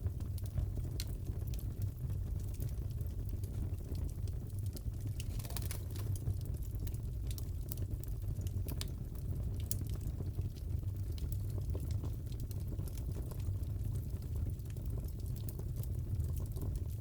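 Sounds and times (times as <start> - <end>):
fire crackling and popping: 0.0 - 17.0
low rumble of burning: 0.0 - 17.0.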